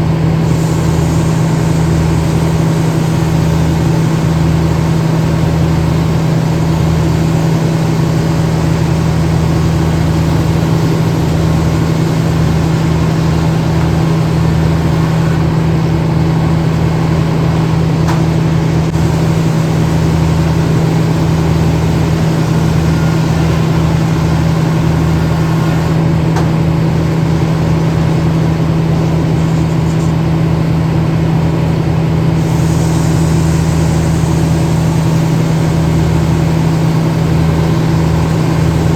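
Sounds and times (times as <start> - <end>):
engine droning steadily: 0.0 - 38.9.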